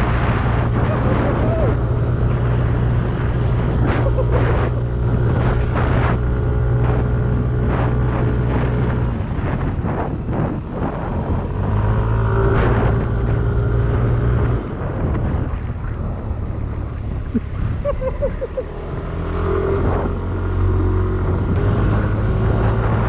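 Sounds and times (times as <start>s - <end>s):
scooter engine running: 0.0s - 23.0s.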